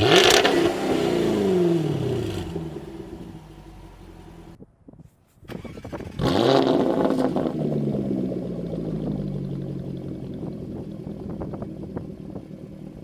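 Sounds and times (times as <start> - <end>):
car exhaust revving and idling: 0.0 - 4.6, 5.9 - 13.0.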